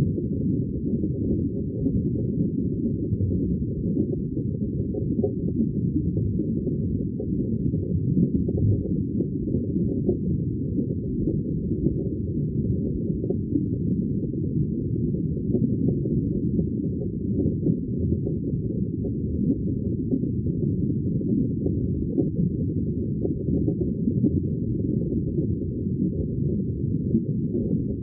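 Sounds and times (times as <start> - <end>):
muffled low rumble: 0.0 - 28.0.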